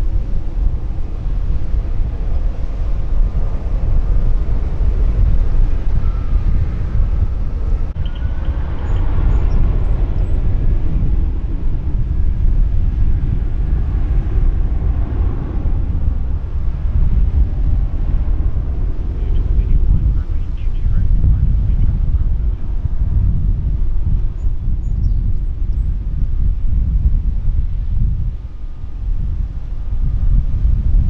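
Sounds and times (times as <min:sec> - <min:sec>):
distant jet engines rumbling: 0:00.0 - 0:31.0
faint jet engine whine: 0:00.0 - 0:31.0
wind buffeting microphone: 0:00.0 - 0:31.0.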